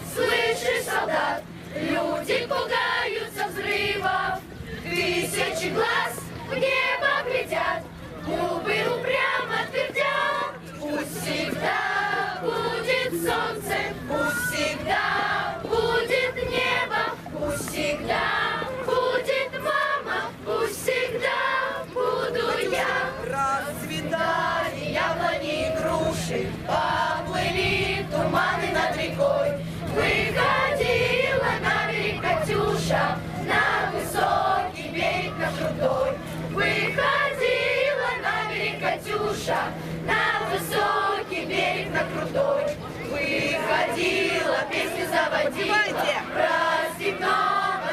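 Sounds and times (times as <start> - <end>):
group of voices singing: 0.0 - 47.9
steady low hum: 0.0 - 47.9.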